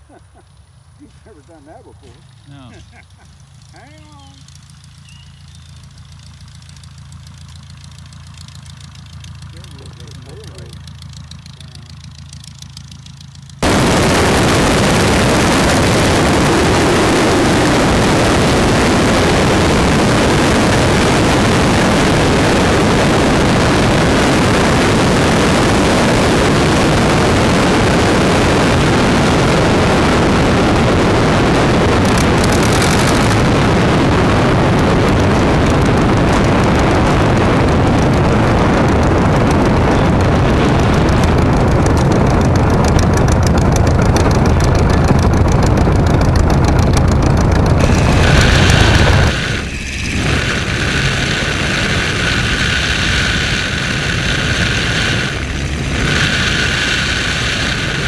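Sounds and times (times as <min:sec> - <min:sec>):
biplane engine and propeller roar: 0:00.0 - 0:58.0.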